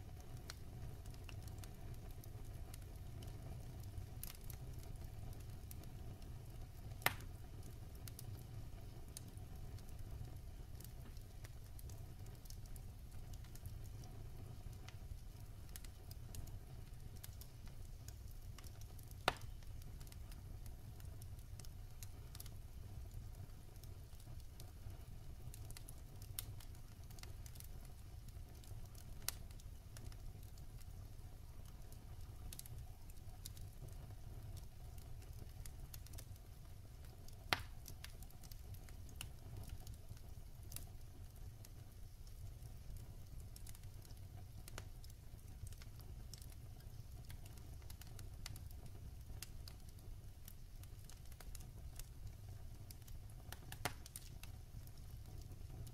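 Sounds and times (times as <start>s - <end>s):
wood fire burning: 0.0s - 55.9s
burning logs popping: 0.1s - 55.9s.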